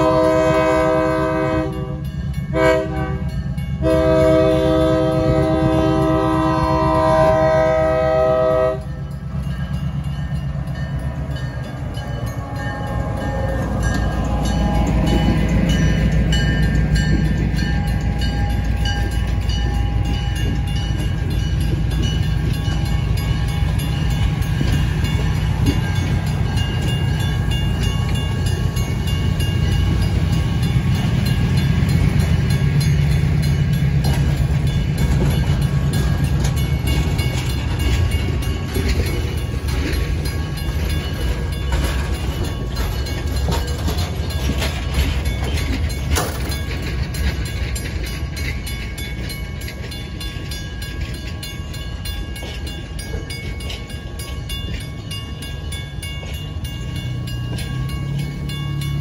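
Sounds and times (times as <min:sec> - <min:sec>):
locomotive engine rumble: 0:00.0 - 0:59.0
train coaches rolling: 0:00.0 - 0:59.0
wheel clacks over rail joints: 0:08.6 - 0:59.0.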